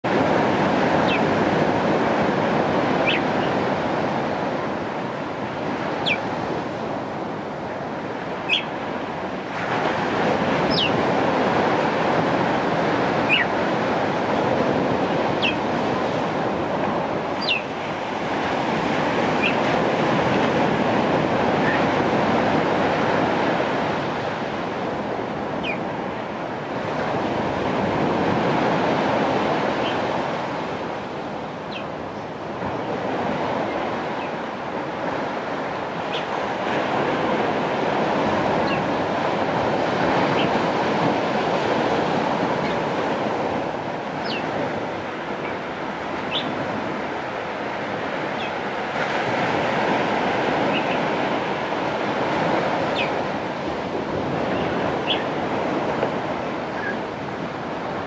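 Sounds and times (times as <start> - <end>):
surf breaking on rocky shore: 0.0 - 58.0.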